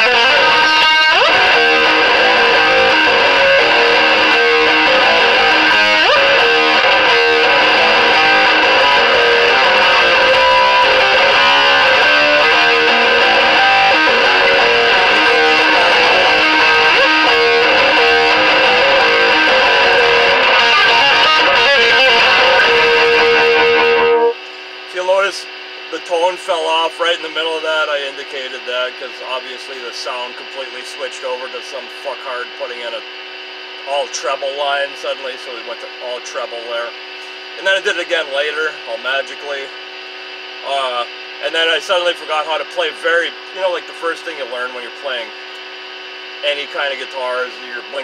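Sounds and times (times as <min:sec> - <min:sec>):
distorted electric guitar riffs: 0:00.0 - 0:48.0.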